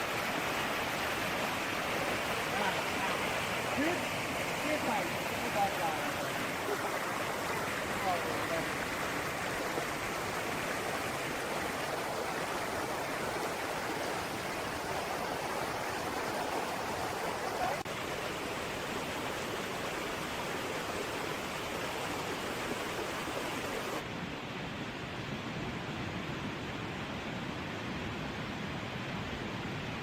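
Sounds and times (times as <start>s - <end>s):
running water rushing: 0.0s - 24.2s.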